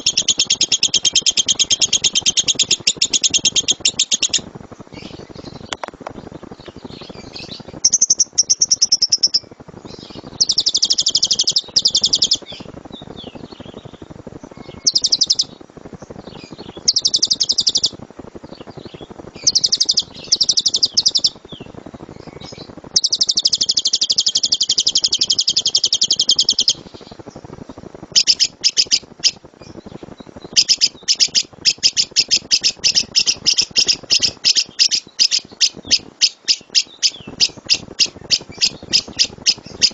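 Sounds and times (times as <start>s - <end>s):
bird singing rapid trills: 0.0s - 4.4s, 5.0s - 15.6s, 16.2s - 27.5s, 28.1s - 39.9s
bird chirps: 0.0s - 27.5s, 28.1s - 39.9s.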